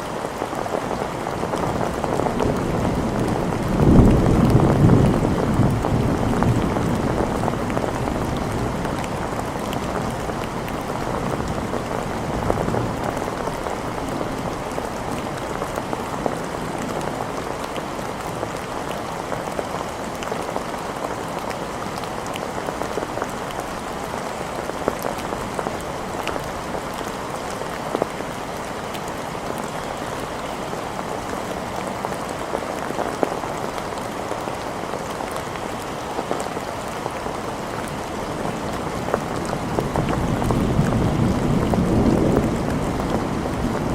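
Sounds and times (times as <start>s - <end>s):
rain on hard surfaces: 0.0s - 43.9s.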